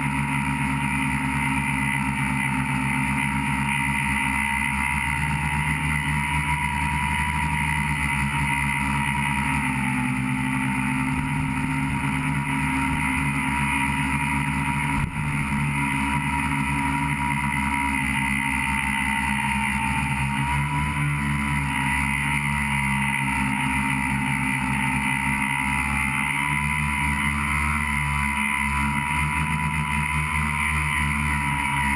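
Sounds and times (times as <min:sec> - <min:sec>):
drone motors whining: 0:00.0 - 0:31.9.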